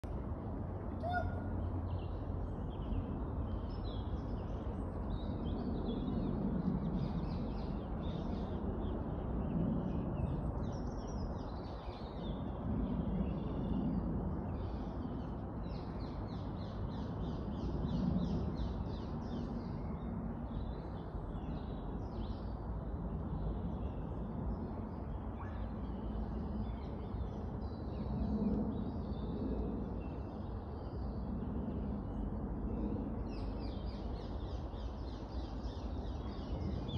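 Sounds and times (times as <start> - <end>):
steady low rumble: 0.0 - 36.9.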